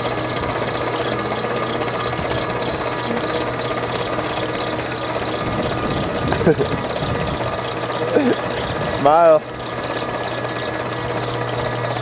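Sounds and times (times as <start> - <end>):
electric hoists humming: 0.0 - 12.0.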